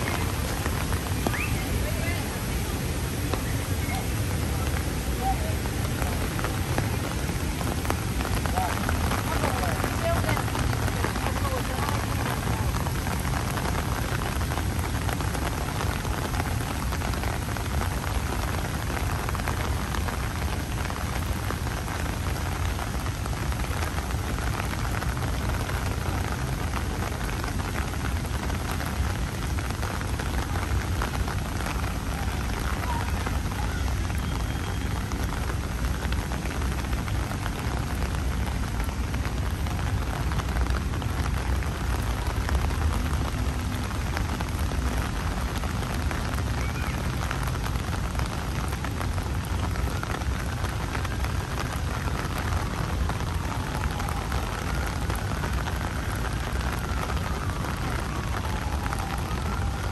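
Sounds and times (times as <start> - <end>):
rain on pavement and trees: 0.0 - 59.9.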